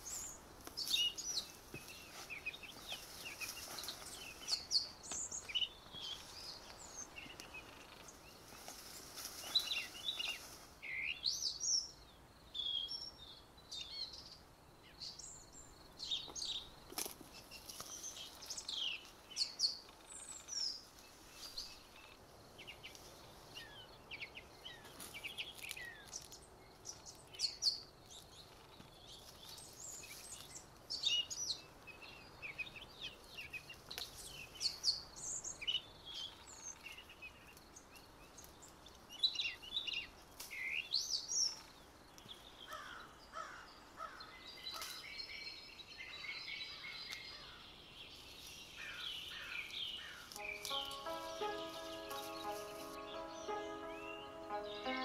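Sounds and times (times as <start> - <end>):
faint outdoor hiss: 0.0 - 55.0
songbirds chirping: 0.0 - 55.0.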